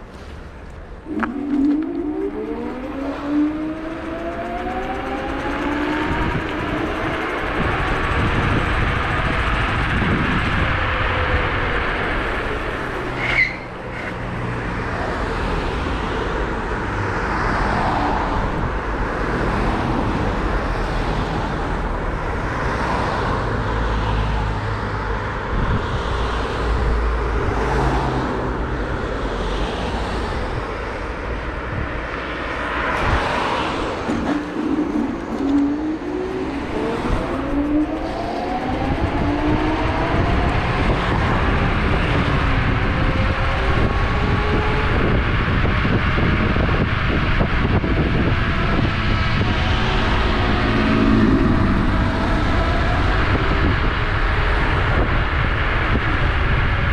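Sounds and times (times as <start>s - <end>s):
wind and road noise: 0.0s - 56.9s.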